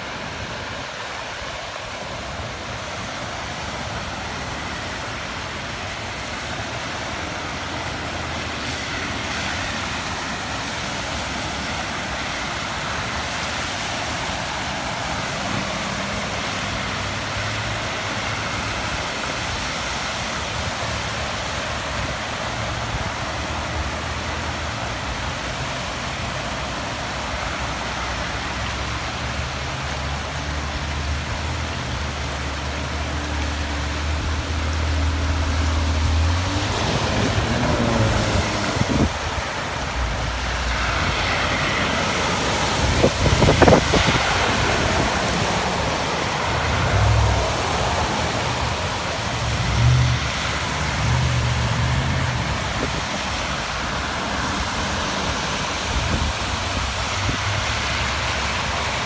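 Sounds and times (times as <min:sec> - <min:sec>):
car engines humming: 0:00.0 - 0:59.0
cars splashing through water: 0:00.0 - 0:59.0
floodwater rushing: 0:00.0 - 0:59.0.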